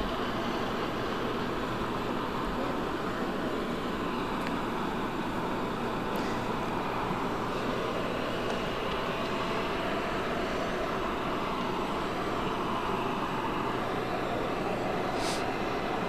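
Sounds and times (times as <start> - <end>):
jet aircraft roar: 0.0 - 16.0.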